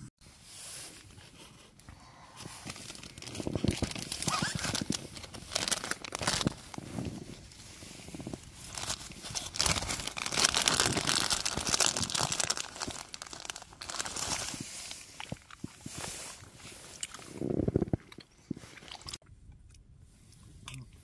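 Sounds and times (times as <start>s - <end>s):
crinkling and rustling: 0.4s - 19.2s.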